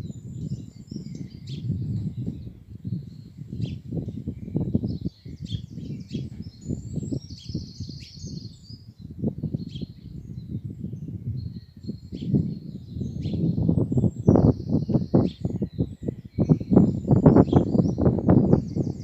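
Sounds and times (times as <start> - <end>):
birds chirping and singing: 0.0 - 19.0
wind rumbling on microphone: 0.0 - 19.0.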